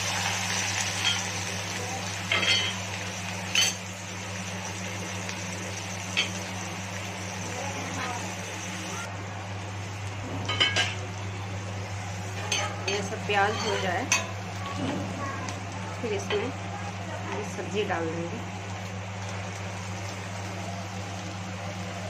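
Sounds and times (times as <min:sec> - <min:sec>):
onion sizzling in hot oil: 0:00.0 - 0:22.0
steady low hum: 0:00.0 - 0:22.0.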